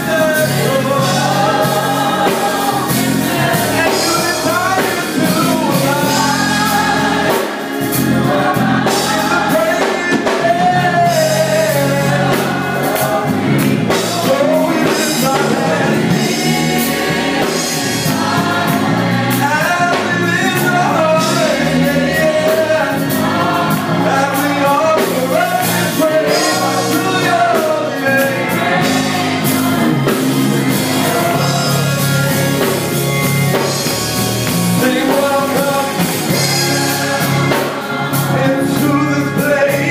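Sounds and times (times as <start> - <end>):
gospel choir singing: 0.0 - 39.9
instrumental accompaniment: 0.0 - 39.9.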